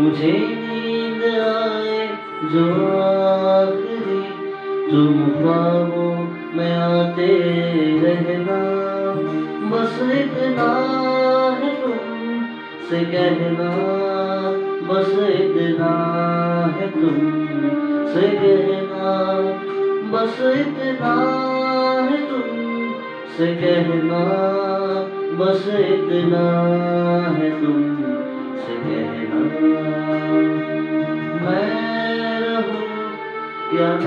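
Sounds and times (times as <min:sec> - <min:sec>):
instrumental backing track: 0:00.0 - 0:34.0
man singing: 0:00.0 - 0:34.0.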